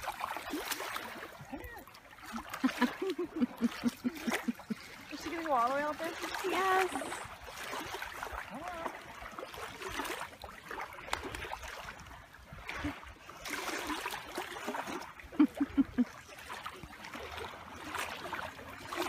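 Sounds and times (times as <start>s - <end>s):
small waves lapping at shore: 0.0s - 19.0s.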